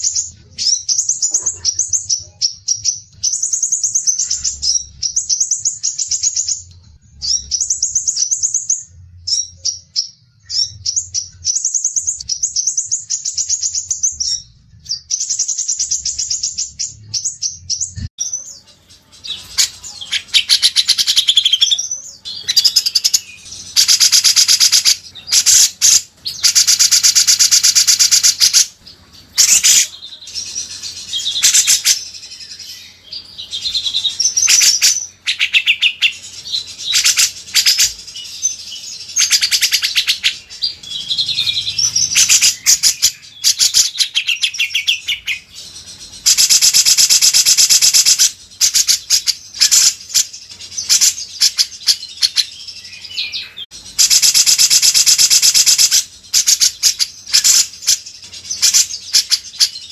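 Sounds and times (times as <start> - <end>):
songbird singing trills: 0.0 - 59.9.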